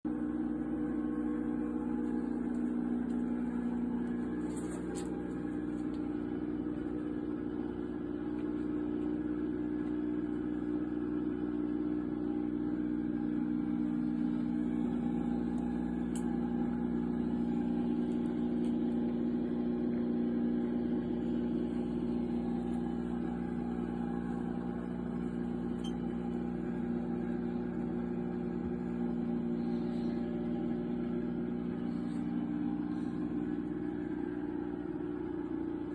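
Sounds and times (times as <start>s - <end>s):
incubator electric hum: 0.0s - 35.9s.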